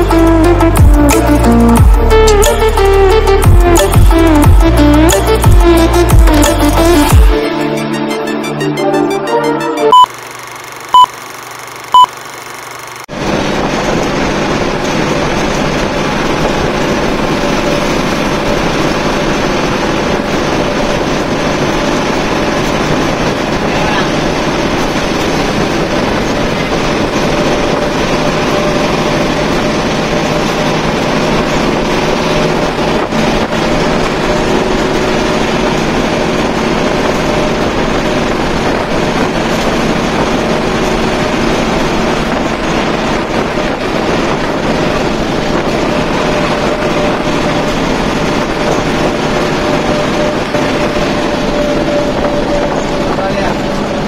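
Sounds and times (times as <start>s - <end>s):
coach engine and road noise: 0.0s - 54.0s.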